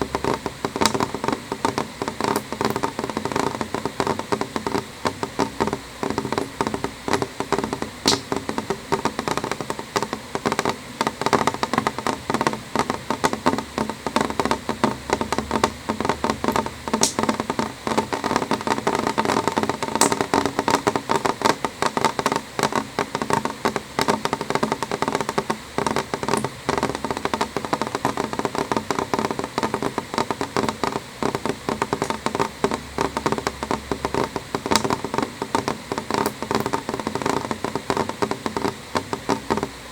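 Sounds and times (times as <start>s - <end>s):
rain drops tapping on window: 0.0s - 39.9s.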